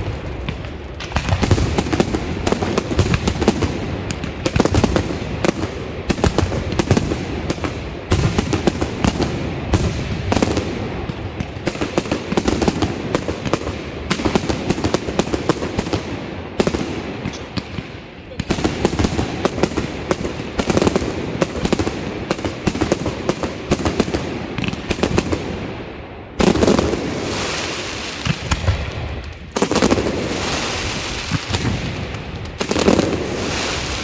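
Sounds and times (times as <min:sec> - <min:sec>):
fireworks cracks and bangs: 0:00.0 - 0:34.0.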